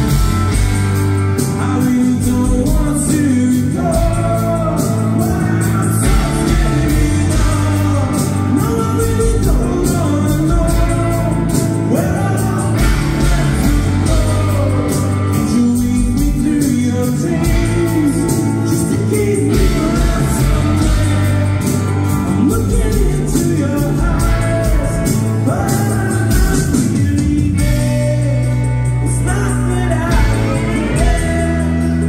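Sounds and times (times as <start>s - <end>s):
live rock band: 0.0s - 32.0s
male lead vocals: 0.0s - 32.0s.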